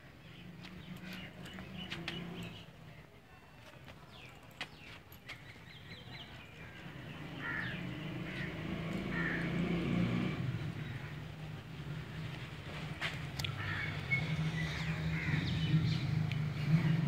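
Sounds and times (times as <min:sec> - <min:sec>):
engine humming: 0:00.0 - 0:02.8, 0:03.8 - 0:17.0
birds chirping: 0:00.0 - 0:17.0.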